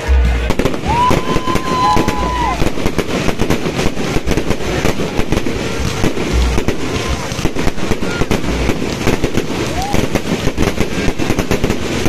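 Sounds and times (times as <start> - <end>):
continuous noisy rumble: 0.0 - 12.0
fireworks bangs and crackles: 0.0 - 12.0.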